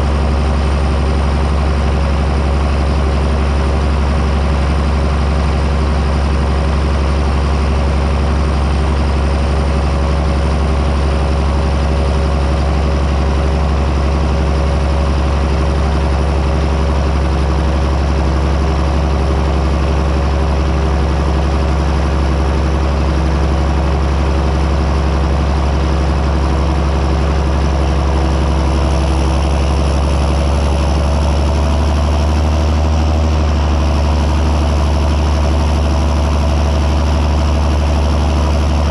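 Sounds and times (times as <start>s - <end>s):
tractor diesel engine drone: 0.0s - 38.9s.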